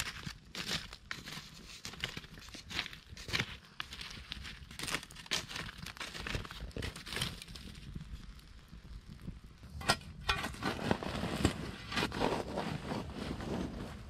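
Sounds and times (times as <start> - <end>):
spade scraping ash and coals: 0.0 - 8.4, 9.6 - 14.0
wood fire crackling and popping: 0.0 - 14.0.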